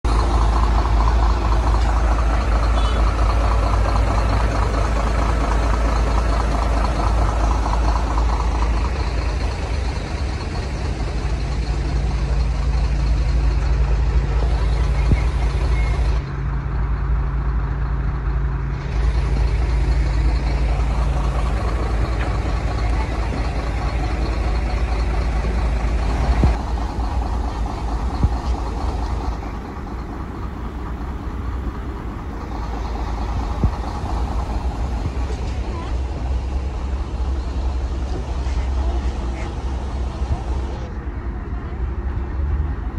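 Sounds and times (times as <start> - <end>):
truck engines idling: 0.0 - 42.9.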